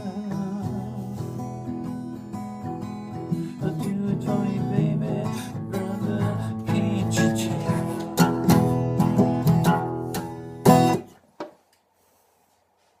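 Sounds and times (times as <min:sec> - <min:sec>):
acoustic guitar playing: 0:00.0 - 0:11.2.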